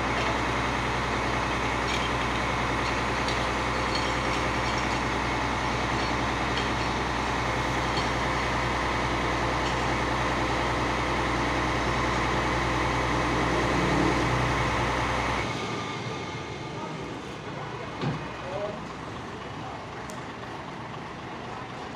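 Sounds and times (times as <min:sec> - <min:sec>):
fire truck engine humming: 0:00.0 - 0:21.9.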